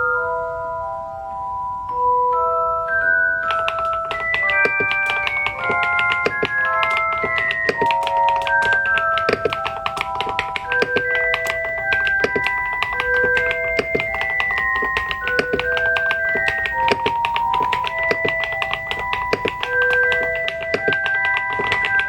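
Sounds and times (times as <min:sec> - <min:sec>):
mechanical keyboard typing: 0:03.4 - 0:22.0.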